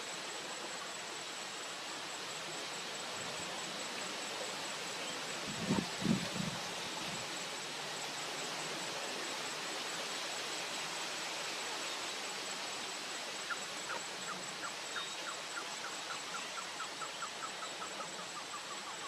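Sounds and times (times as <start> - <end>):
rustling leaves: 0.0 - 19.0
wind: 0.0 - 19.0.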